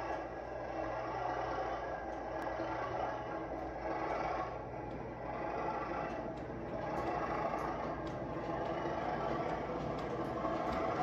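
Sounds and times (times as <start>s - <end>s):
model locomotive drone: 0.0s - 11.0s.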